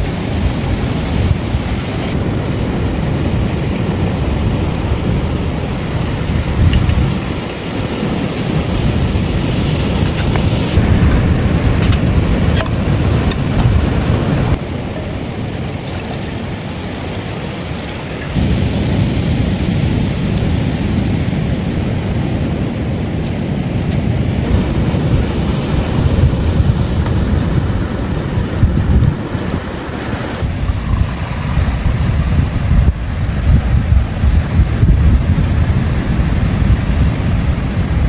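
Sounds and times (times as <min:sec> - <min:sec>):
surf washing on beach: 0:00.0 - 0:38.0
wind rumbling on microphone: 0:00.0 - 0:38.0.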